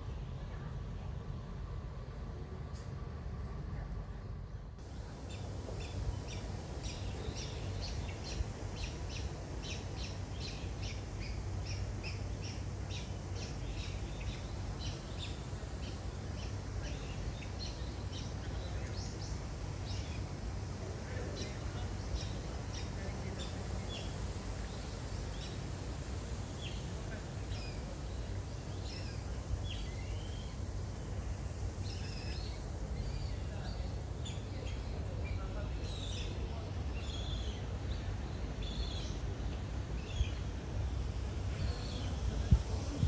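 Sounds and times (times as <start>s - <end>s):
small birds chirping: 4.8s - 39.3s.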